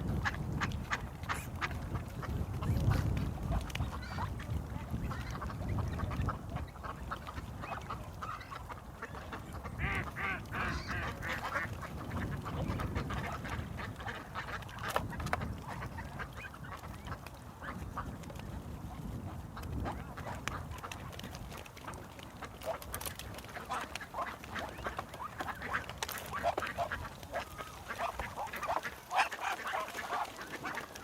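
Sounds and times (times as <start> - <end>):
ducks quacking: 0.0 - 18.2, 19.1 - 31.0.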